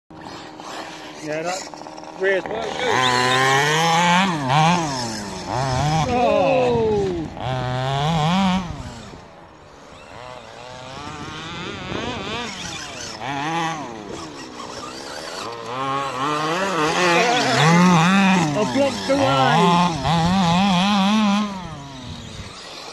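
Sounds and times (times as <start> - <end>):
two-stroke engine revving: 0.1 - 22.9.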